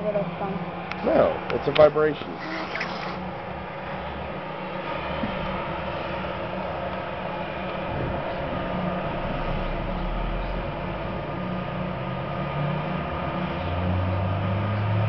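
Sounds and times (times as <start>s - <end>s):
vibrator trucks droning: 0.0s - 15.0s.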